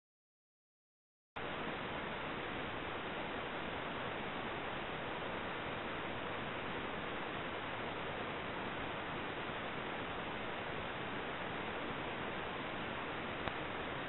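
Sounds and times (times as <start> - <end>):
steady microphone hiss: 1.4 - 14.0.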